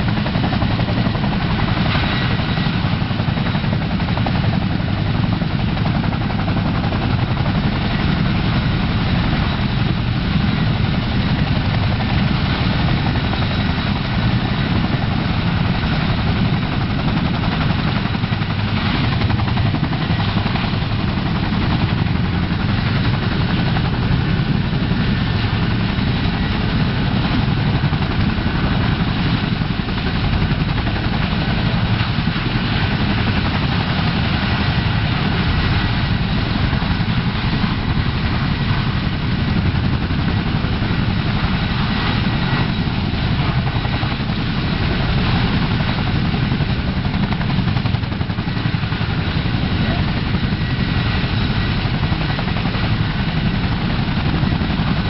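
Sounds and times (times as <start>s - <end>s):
helicopter running: 0.0s - 55.0s
high turbine whine: 0.0s - 55.0s.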